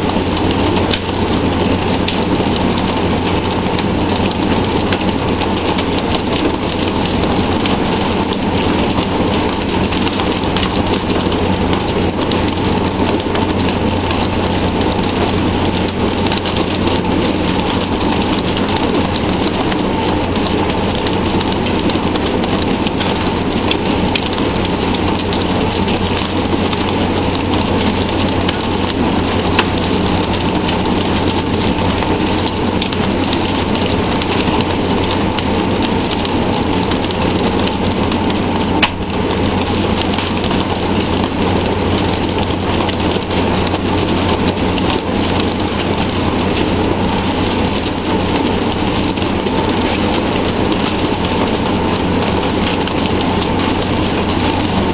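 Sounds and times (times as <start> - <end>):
low boat engine drone: 0.0 - 54.9
water rushing around a boat: 0.0 - 54.9
small clicks and knocks: 0.1 - 46.7.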